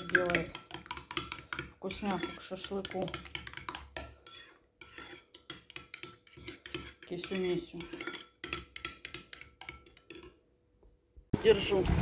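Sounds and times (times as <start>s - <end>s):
cutlery clinking on dishes: 0.0s - 10.3s.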